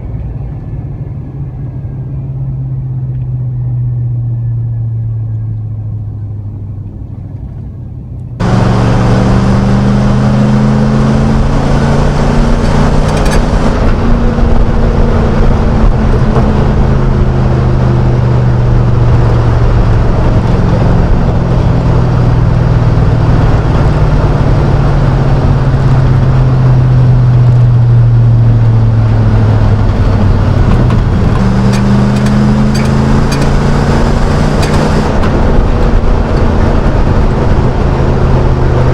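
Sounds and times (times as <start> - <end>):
low exhaust drone in cab: 0.0 - 38.9.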